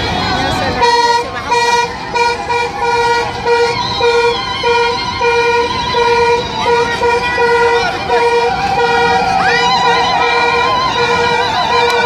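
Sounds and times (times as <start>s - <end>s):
horn tooting short blasts: 0.8s - 12.0s.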